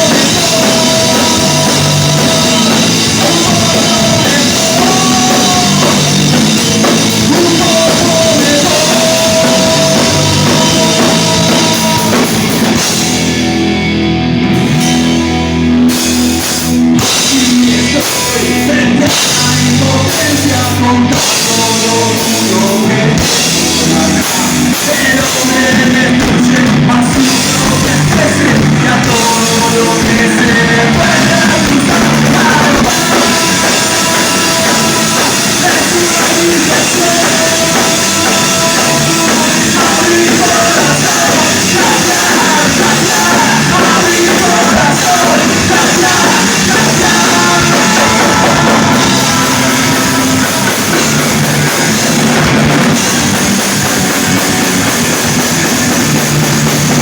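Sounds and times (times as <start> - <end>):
person singing: 0.0 - 13.0, 17.0 - 53.6
drum kit: 0.0 - 57.0
electric guitar: 0.0 - 57.0.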